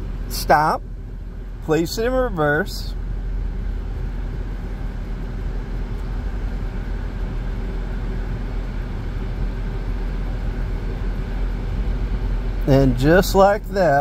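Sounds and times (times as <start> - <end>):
car cabin low rumble: 0.0 - 14.0.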